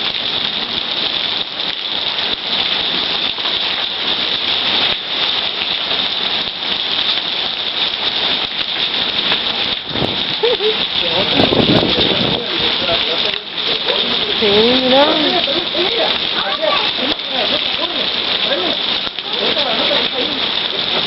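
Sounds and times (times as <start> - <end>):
heavy rain and hail: 0.0 - 21.0.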